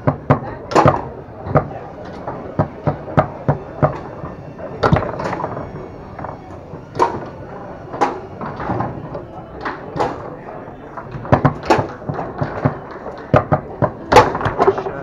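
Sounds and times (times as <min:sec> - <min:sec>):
foosball knocks and clacks: 0:00.0 - 0:10.3, 0:10.9 - 0:15.0.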